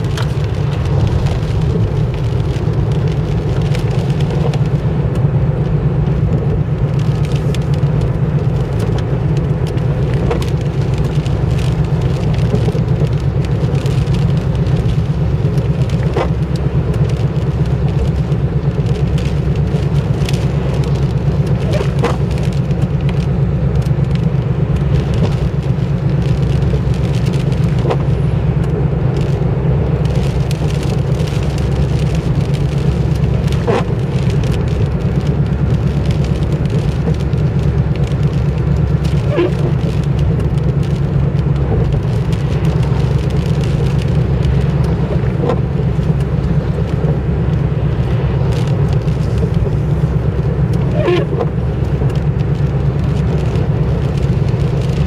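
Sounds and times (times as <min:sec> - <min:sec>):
car engine drone: 0:00.0 - 0:55.0
tyres on a wet road: 0:00.0 - 0:55.0
windscreen wiper swish: 0:00.0 - 0:55.0.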